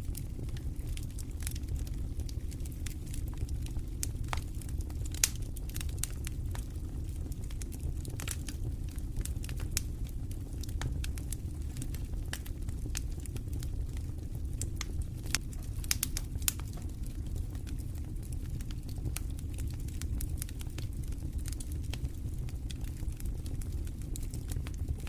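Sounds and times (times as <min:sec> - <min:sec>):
campfire crackling and popping: 0:00.0 - 0:25.0
low rumble of wind: 0:00.0 - 0:25.0.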